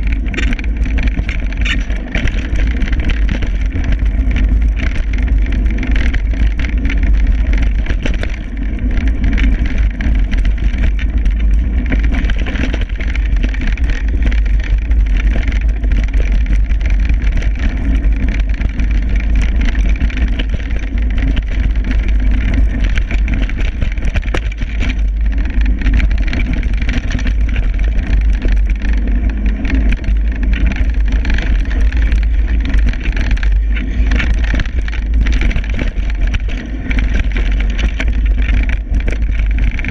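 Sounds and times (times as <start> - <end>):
mountain bike tyre noise and rattle: 0.0 - 39.9.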